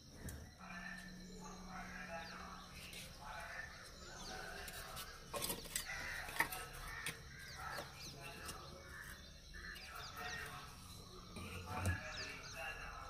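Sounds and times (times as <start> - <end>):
birds calling: 0.0 - 13.0
low steady hum: 0.0 - 13.0.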